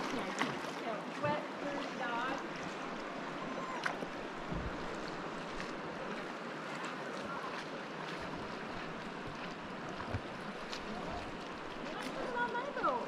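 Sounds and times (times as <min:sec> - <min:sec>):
creek water rushing: 0:00.0 - 0:13.0
small splashes: 0:00.0 - 0:13.0.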